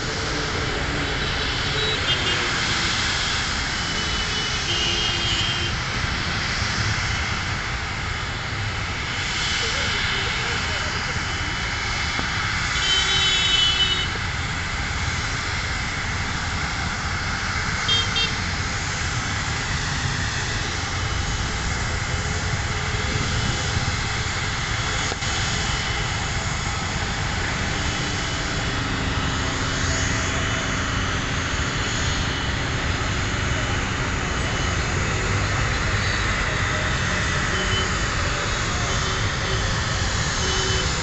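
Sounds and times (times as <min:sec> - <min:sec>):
jet engine noise: 0:00.0 - 0:41.0
landing jet engine whine: 0:00.0 - 0:41.0.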